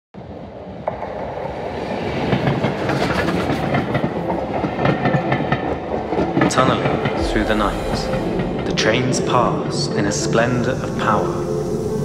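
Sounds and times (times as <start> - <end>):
train wheels clattering on rails: 0.8 - 12.0.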